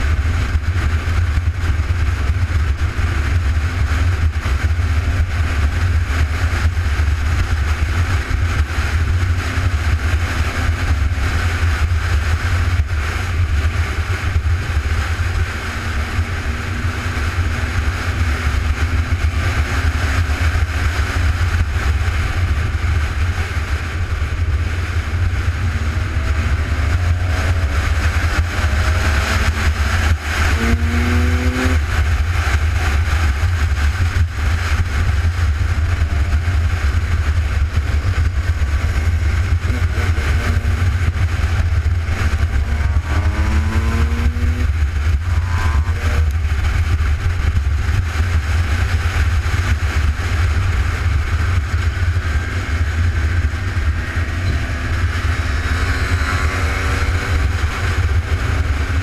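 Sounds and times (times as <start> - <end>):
off-road engines revving: 0.0 - 59.0
steady low engine rumble: 0.0 - 59.0.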